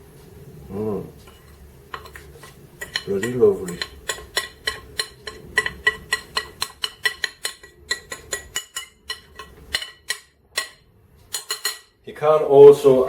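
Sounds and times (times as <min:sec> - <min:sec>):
cutlery clinking against a dish: 0:01.3 - 0:12.0.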